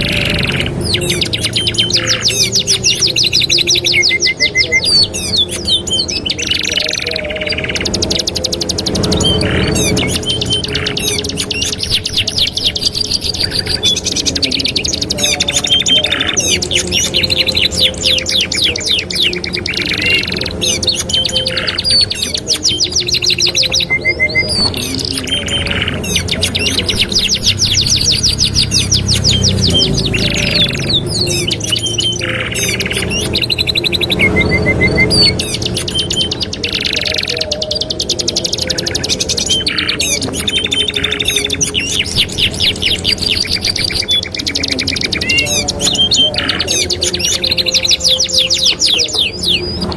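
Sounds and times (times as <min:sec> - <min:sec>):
canaries singing trills: 0:00.0 - 0:49.9.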